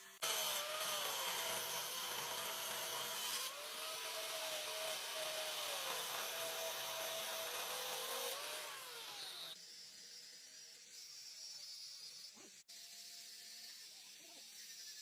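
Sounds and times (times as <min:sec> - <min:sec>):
power tool whirring: 0:00.0 - 0:15.0.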